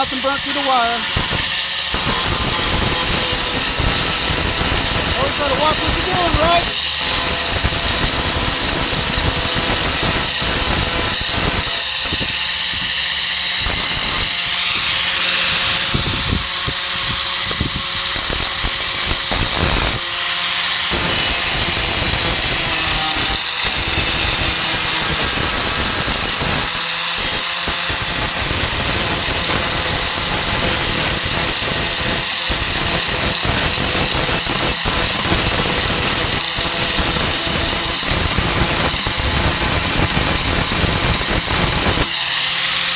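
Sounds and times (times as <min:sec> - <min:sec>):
angle grinder grinding steel: 0:00.0 - 0:42.9.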